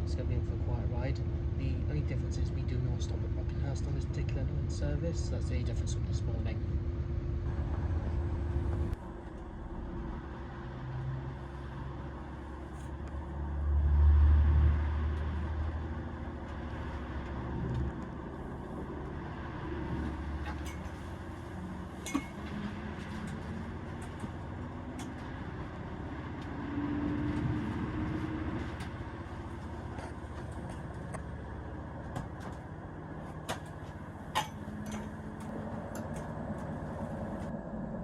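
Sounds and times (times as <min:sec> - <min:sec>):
diesel train engine rumble: 0:00.0 - 0:38.0.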